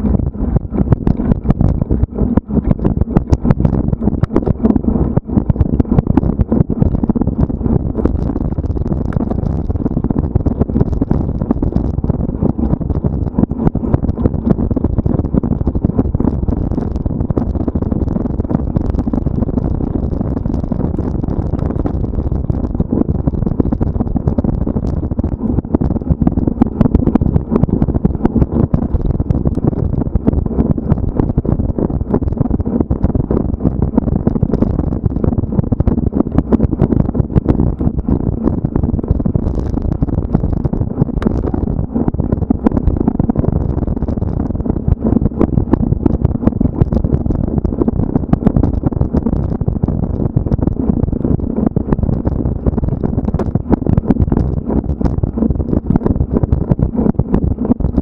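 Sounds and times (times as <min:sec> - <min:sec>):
wind rumble: 0:00.0 - 0:58.0.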